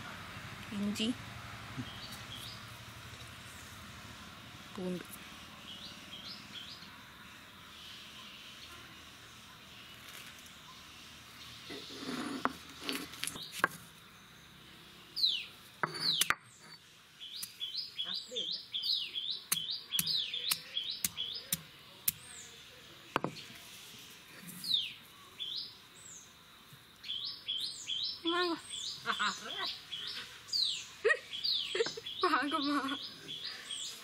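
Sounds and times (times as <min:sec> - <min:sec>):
birds chirping: 0:00.7 - 0:34.0.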